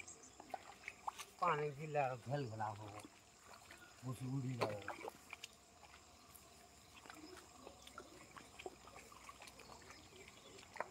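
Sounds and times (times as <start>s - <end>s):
light water sounds: 0.0s - 10.9s.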